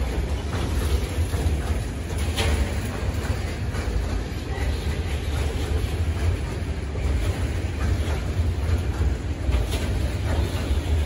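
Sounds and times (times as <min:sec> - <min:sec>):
wheels clicking over rail joints: 0:00.0 - 0:11.0.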